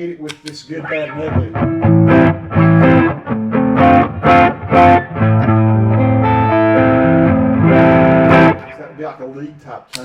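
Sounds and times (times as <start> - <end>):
overdriven electric guitar: 0.8 - 8.9.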